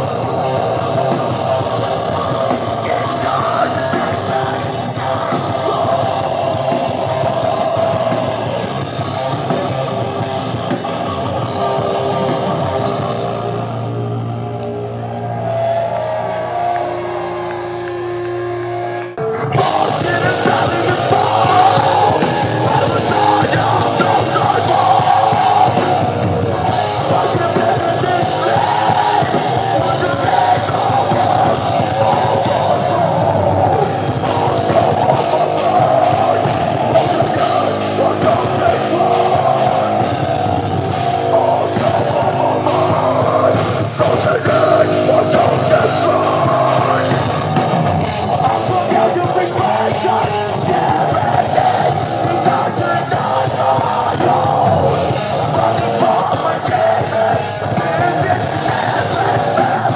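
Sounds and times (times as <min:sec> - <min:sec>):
pounding drum kit: 0:00.0 - 0:14.5, 0:19.2 - 0:59.9
heavy distorted guitars: 0:00.0 - 0:59.9
metalcore band playing live: 0:00.0 - 0:59.9.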